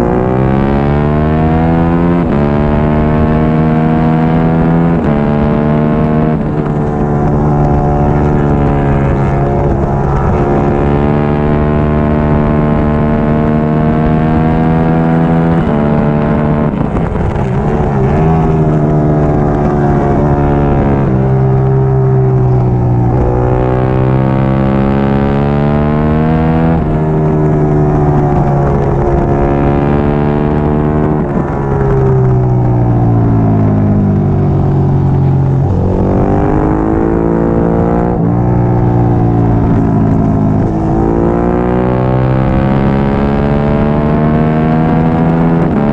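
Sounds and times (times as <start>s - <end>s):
motorcycle engine revving high: 0.0s - 45.9s.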